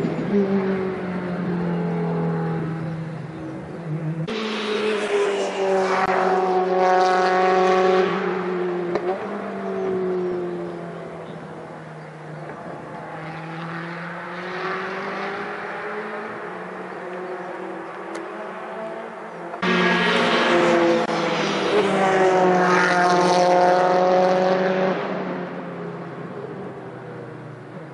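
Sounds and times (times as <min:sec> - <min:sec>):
race car passing: 0:00.0 - 0:27.9.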